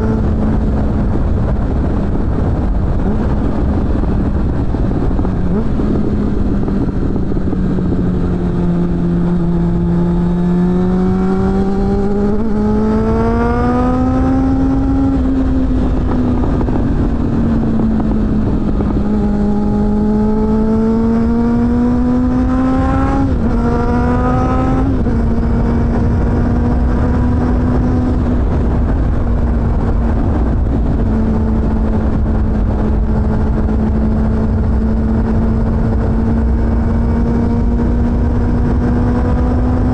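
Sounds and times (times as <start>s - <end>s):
motorcycle engine accelerating: 0.0s - 39.9s
wind rumble on microphone: 0.0s - 39.9s.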